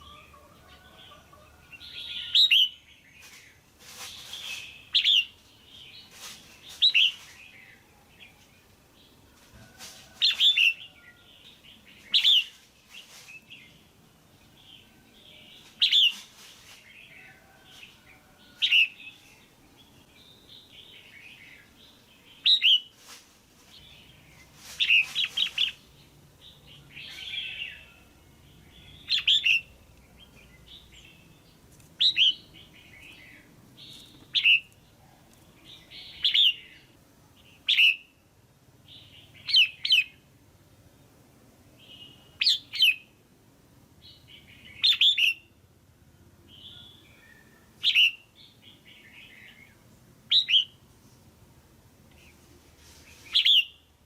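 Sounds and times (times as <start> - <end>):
bird chirping calls: 0.0 - 9.2, 10.1 - 13.9, 14.5 - 22.9, 23.7 - 38.2, 38.8 - 40.3, 41.8 - 43.2, 44.0 - 45.6, 46.4 - 50.8, 52.1 - 53.9.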